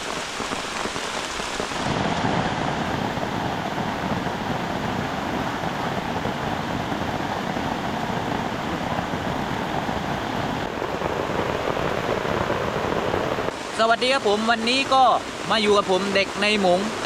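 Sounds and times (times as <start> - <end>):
heavy rain hissing: 0.0 - 17.0
strong wind: 0.0 - 17.0.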